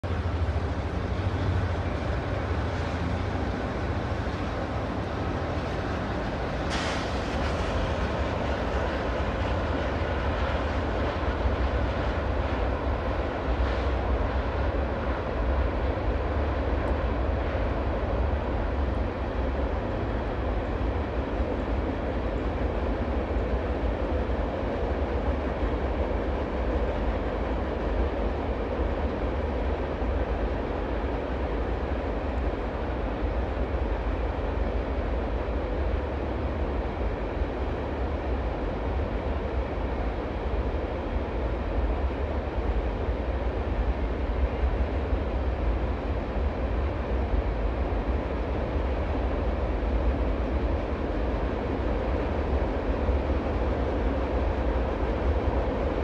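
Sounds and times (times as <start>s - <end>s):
diesel locomotives passing: 0.0s - 56.0s.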